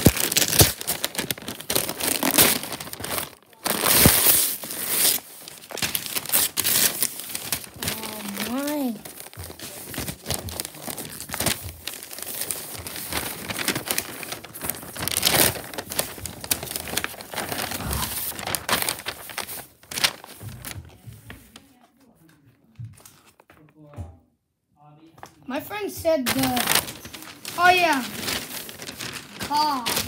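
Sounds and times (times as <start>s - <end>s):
gift wrapping paper crumpled and torn: 0.0s - 21.7s, 26.2s - 30.0s.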